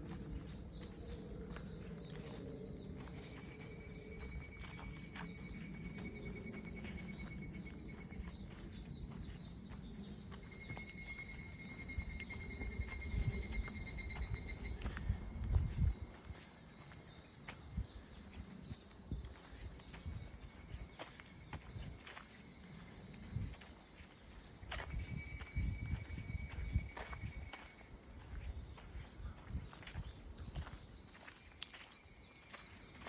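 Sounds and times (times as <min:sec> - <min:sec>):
footsteps on a trail: 0:00.0 - 0:33.0
insects chirping: 0:00.0 - 0:33.0.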